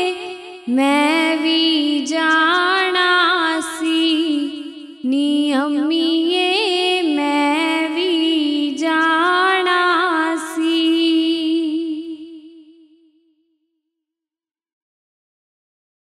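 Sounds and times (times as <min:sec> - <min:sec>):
woman singing devotional song: 0:00.0 - 0:13.1.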